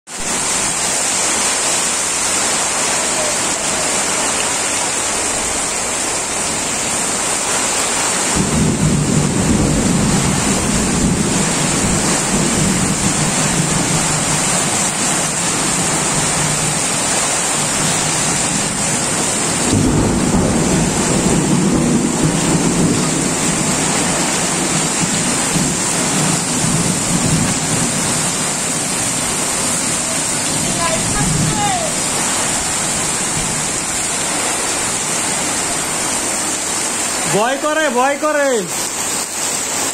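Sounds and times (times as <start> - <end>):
heavy rain on tin roofs: 0.1 - 39.9.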